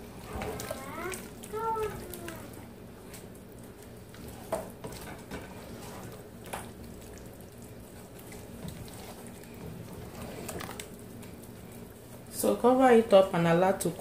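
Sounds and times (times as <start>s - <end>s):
thick soup sloshing and squelching: 0.0s - 12.4s
low steady hum: 0.0s - 14.0s.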